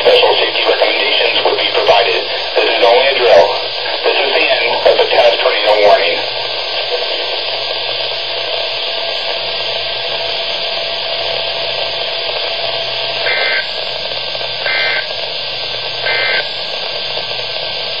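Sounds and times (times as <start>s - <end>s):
digital data bursts: 0.0s - 18.0s
radio hiss: 0.0s - 18.0s.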